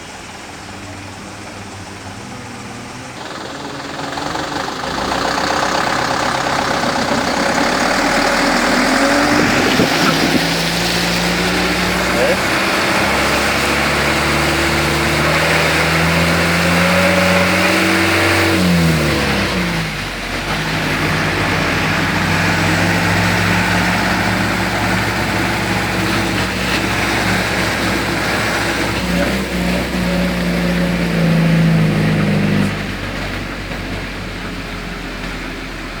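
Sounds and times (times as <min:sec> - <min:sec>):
car engine running: 0:00.0 - 0:36.0
tyres hissing on wet road: 0:00.0 - 0:36.0.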